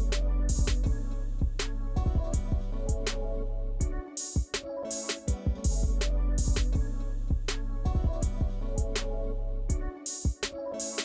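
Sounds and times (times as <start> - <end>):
music with drum beat and bass: 0.0 - 3.2, 3.8 - 9.1, 9.7 - 11.0.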